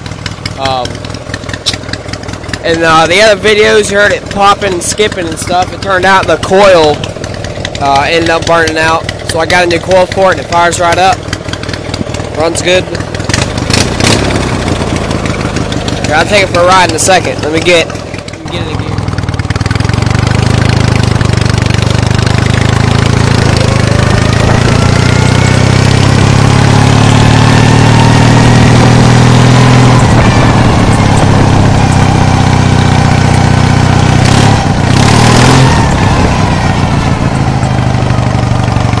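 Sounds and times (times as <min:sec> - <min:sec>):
lawn mower engine running: 0:00.0 - 0:39.0.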